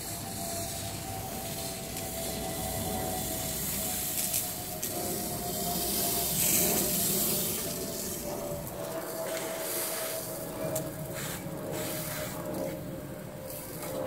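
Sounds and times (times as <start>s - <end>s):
lawn sprinkler spraying water: 0.0s - 14.0s.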